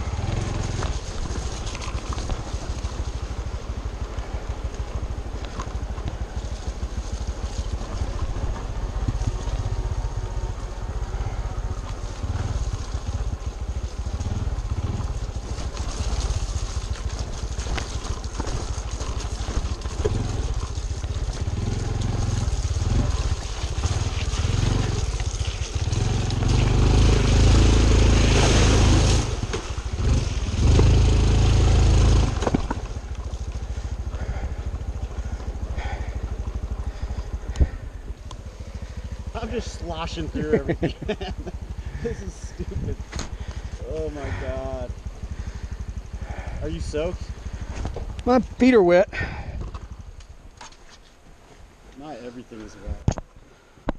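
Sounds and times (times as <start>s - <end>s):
motorcycle engine rumbling: 0.0s - 53.9s.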